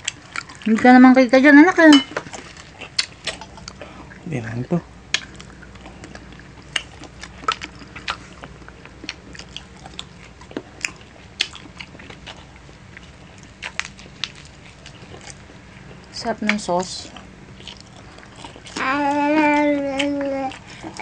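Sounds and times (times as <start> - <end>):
chewing and biting food: 0.0 - 0.9, 2.1 - 4.2, 5.1 - 21.0.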